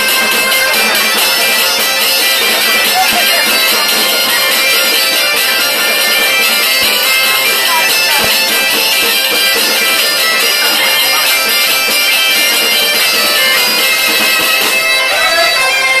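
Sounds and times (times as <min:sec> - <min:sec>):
bagpipe playing folk tune: 0:00.0 - 0:16.0.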